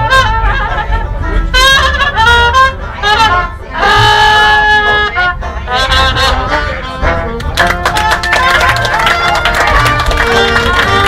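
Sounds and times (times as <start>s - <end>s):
dixieland jazz band: 0.0s - 11.0s.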